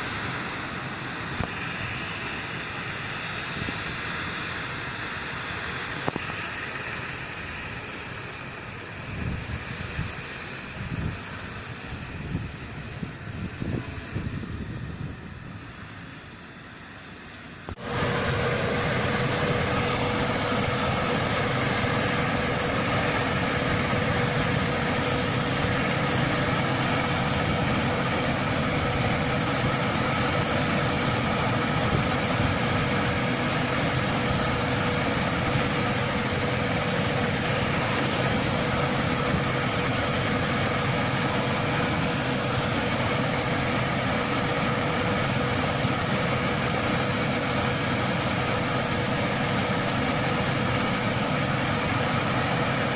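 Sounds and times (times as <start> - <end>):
constant whine: 0.0 - 52.9
diesel engine running: 0.0 - 52.9.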